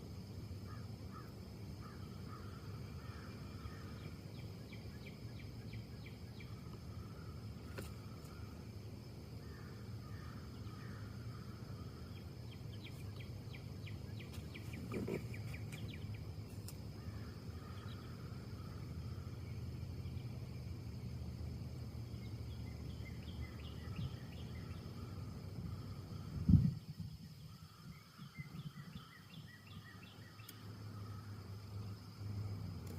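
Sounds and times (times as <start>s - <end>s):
small birds chirping: 0.0s - 32.9s
wind in trees: 0.0s - 32.9s.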